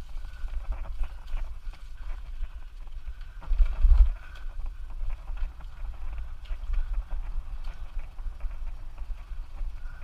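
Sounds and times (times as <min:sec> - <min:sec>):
bike rattles and knocks: 0:00.0 - 0:10.0
wind buffeting microphone: 0:00.0 - 0:10.0.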